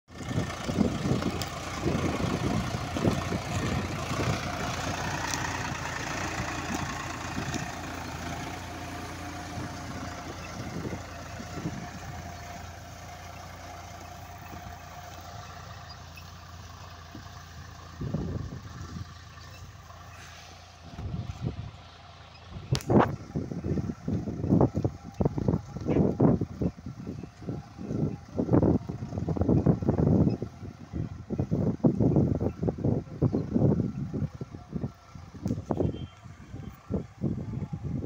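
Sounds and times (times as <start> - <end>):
tractor diesel engine running: 0.1 - 38.0.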